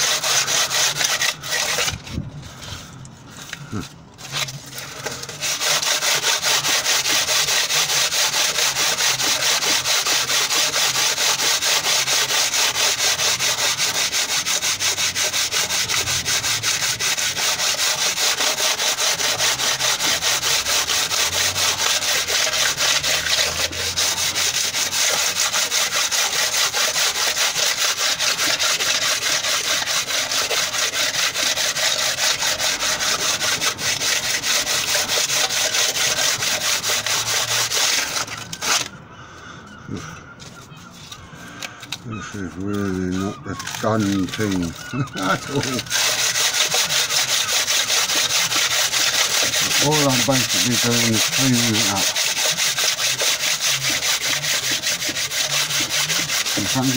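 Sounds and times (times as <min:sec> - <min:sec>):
sandpaper scraping metal: 0:00.0 - 0:38.9, 0:40.4 - 0:56.9.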